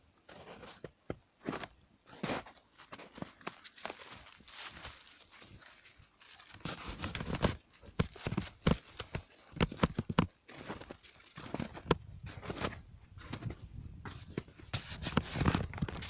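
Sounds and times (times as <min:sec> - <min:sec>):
footsteps on a trail: 0:00.3 - 0:16.0.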